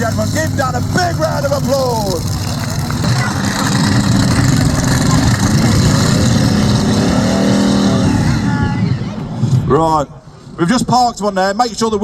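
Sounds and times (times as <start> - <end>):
truck engine revving: 0.0 - 10.5.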